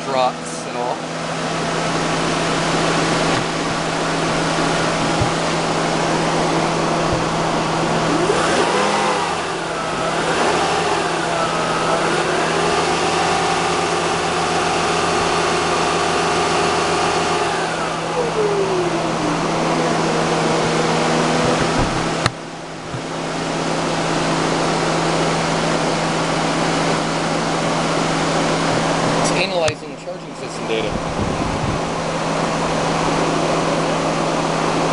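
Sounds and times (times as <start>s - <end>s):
car engine revving: 1.2s - 31.2s.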